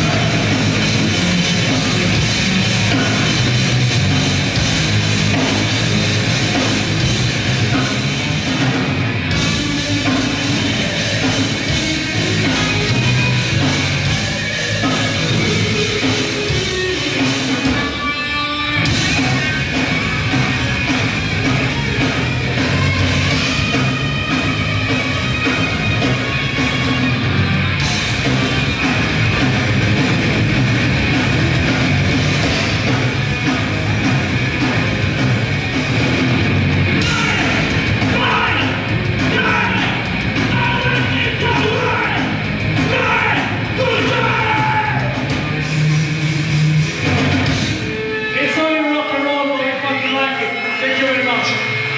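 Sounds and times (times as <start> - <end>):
distorted guitars: 0.0 - 51.9
drums: 0.0 - 51.9.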